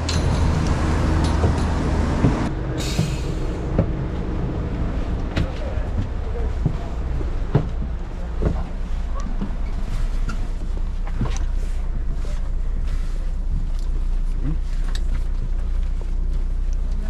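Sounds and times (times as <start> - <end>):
bus engine idling: 0.0 - 17.0
knocks and rustles of people boarding: 0.0 - 17.0.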